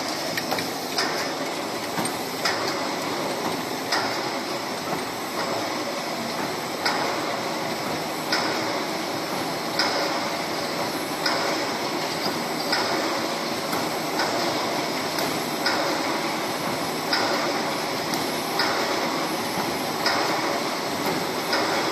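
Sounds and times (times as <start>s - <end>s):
welding machine clacking: 0.0s - 5.7s, 8.2s - 21.9s
steady machine noise: 0.0s - 21.9s.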